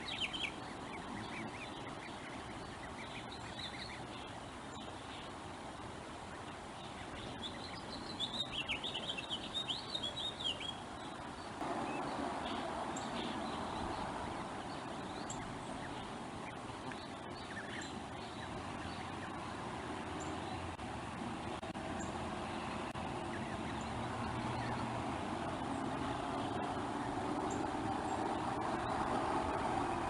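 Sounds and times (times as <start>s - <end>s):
steady outdoor rumble: 0.0s - 30.0s.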